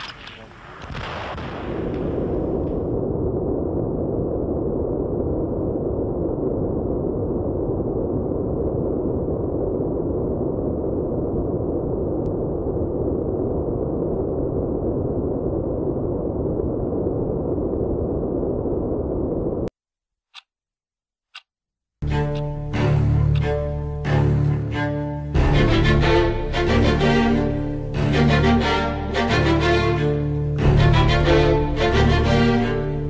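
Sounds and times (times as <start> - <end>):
dull rumbling noise: 0.0 - 19.7, 22.0 - 33.0.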